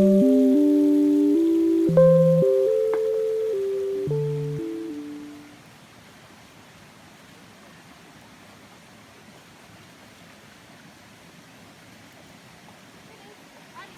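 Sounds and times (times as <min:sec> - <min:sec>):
faint rush of small waterfalls: 0:00.0 - 0:13.9.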